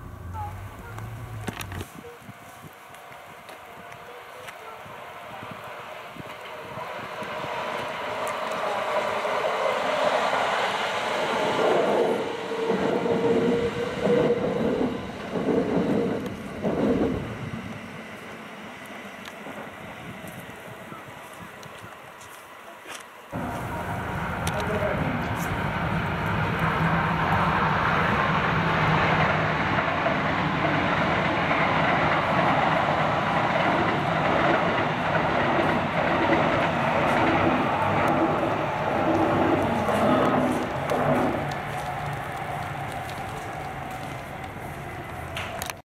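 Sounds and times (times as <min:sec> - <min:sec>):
electric train passing: 0:00.0 - 0:45.8
clickety-clack of rails: 0:00.2 - 0:45.8.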